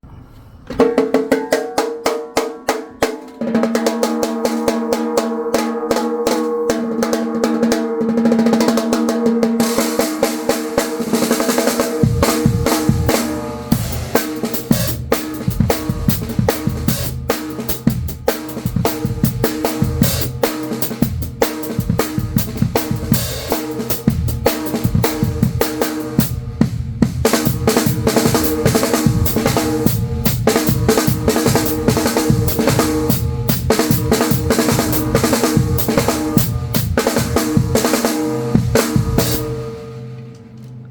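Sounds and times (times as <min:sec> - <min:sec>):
ringing snare drum: 0:00.7 - 0:40.2
drum kit groove: 0:00.7 - 0:40.3.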